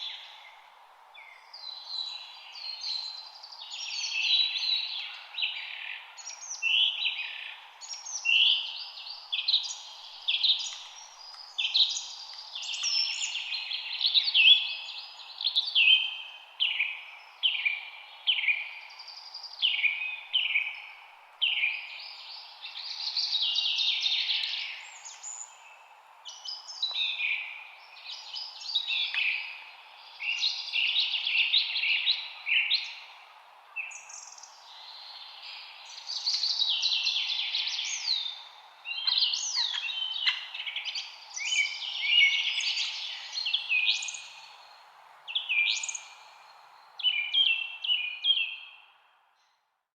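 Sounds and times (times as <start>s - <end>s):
faint steady hiss: 0.0s - 49.6s
songbirds singing: 0.0s - 49.6s.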